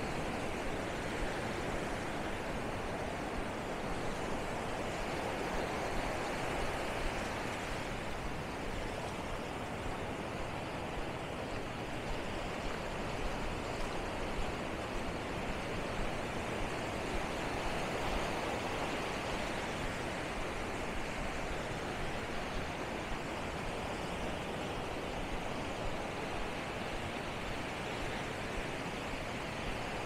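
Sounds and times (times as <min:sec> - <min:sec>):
small waves breaking on shore: 0:00.0 - 0:30.0.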